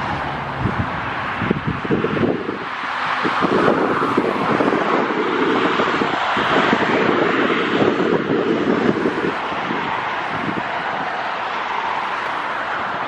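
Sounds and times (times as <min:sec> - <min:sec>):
turboprop engines and propellers: 0:00.0 - 0:13.0
wind buffeting microphone: 0:00.0 - 0:13.0.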